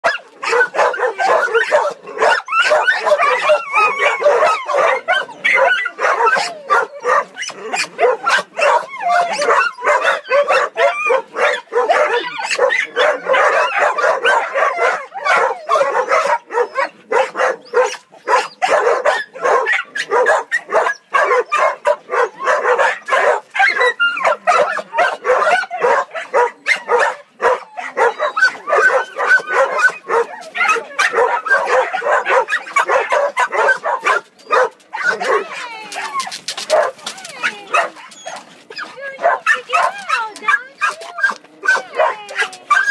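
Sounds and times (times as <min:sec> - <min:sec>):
dogs barking and yipping: 0:00.0 - 0:42.9.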